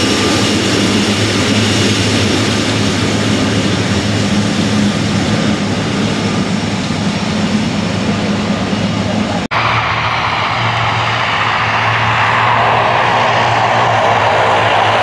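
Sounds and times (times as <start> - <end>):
jet engines roaring at taxi: 0.0 - 15.0.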